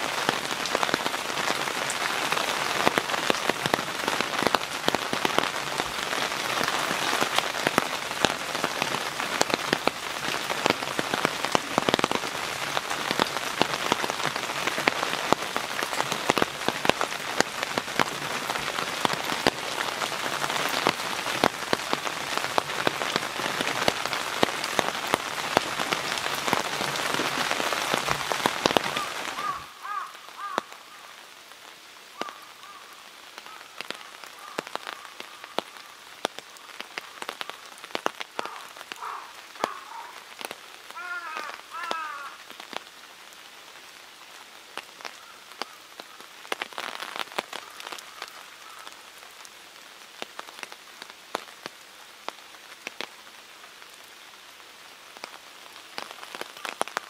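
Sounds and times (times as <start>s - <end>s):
rain on a wooden roof: 0.0s - 57.0s.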